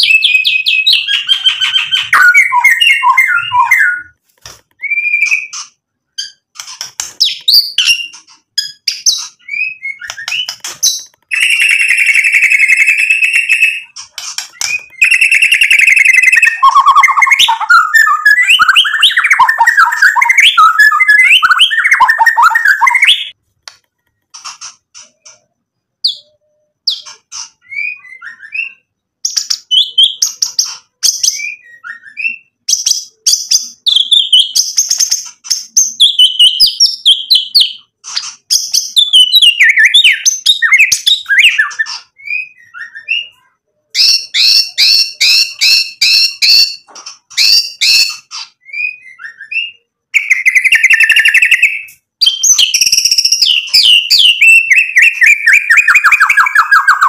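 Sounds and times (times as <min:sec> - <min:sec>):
songbird whistling and chattering: 0:00.0 - 0:23.4, 0:24.4 - 0:57.0.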